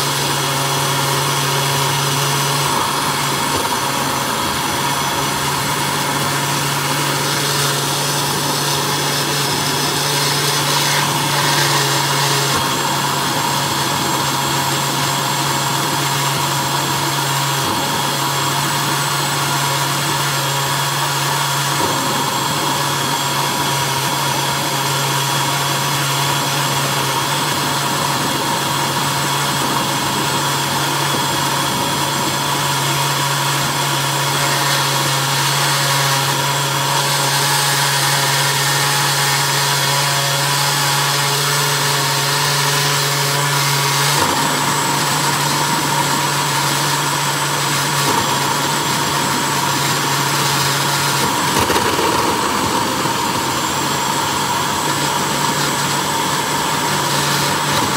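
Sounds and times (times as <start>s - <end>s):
blender running: 0.0s - 57.9s.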